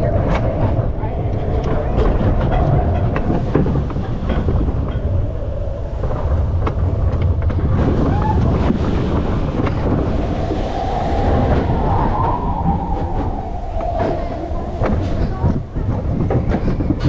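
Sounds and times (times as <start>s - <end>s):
bobsled car rumbling: 0.0s - 17.0s
wind across microphone: 0.0s - 17.0s.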